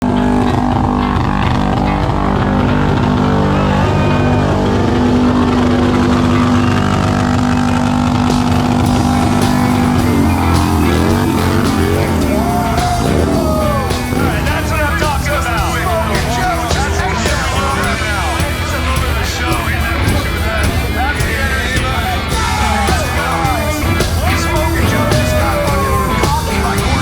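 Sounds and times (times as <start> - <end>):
motorcycle engine running: 0.0 - 27.0
rock music: 0.0 - 27.0.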